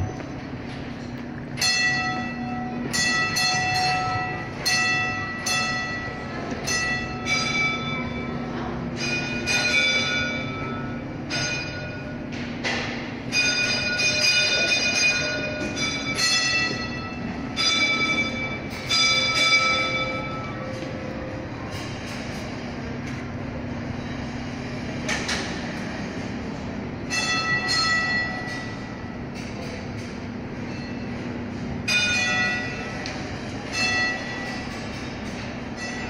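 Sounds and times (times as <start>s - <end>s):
bells ringing: 0.0s - 24.6s, 25.5s - 36.0s.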